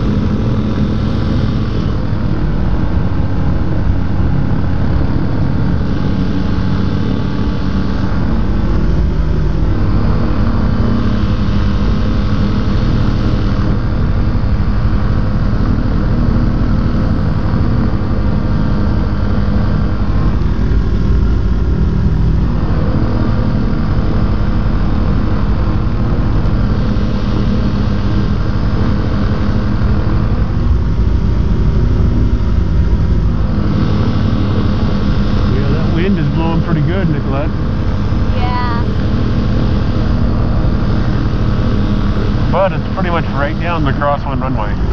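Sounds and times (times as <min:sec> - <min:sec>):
aircraft engine and propeller: 0:00.0 - 0:44.9.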